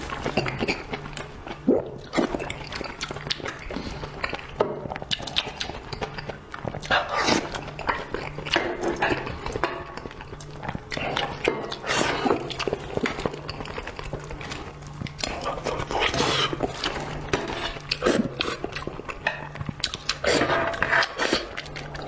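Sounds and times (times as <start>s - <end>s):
wet chewing and slurping: 0.0s - 22.0s.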